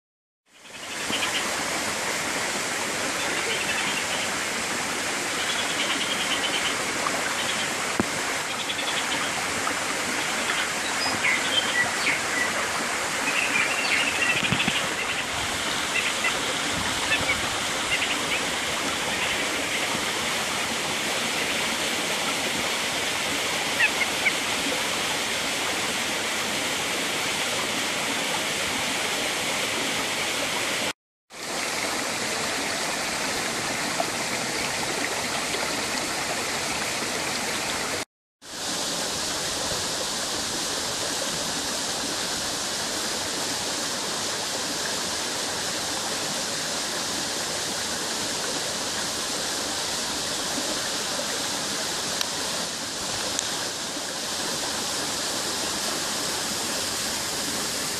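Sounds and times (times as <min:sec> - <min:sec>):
stream water flowing: 0:00.5 - 0:57.9.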